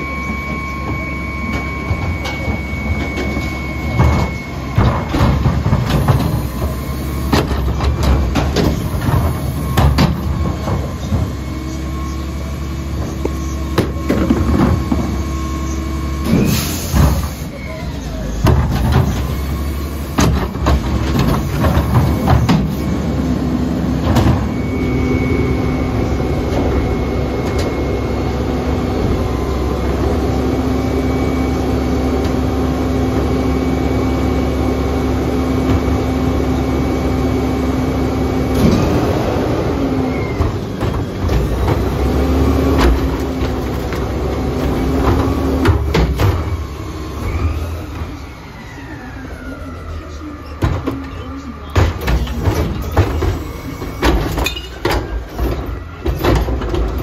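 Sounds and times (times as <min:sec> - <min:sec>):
hydraulic whine: 0:00.0 - 0:57.0
truck engine running: 0:00.0 - 0:57.0.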